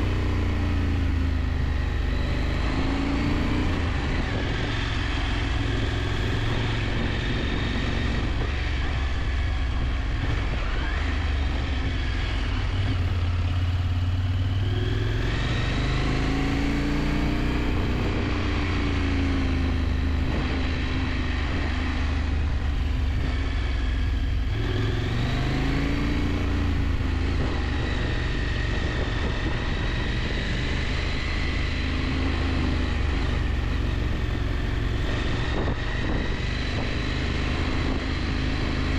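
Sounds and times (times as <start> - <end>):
riding wind rush: 0.0 - 13.8, 14.4 - 38.9
motorcycle engine revving: 0.0 - 38.9.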